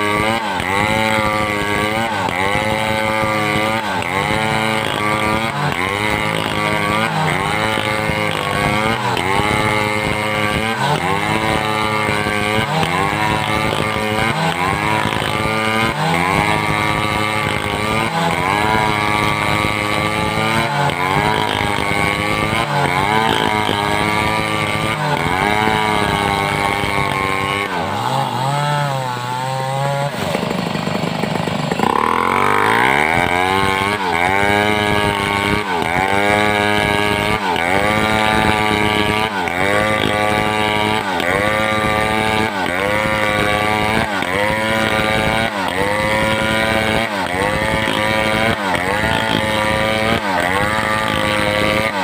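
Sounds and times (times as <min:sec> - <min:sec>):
chainsaw cutting wood: 0:00.0 - 0:52.0.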